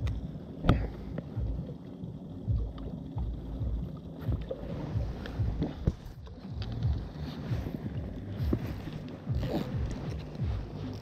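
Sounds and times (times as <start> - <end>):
wind rumble: 0.0 - 11.0.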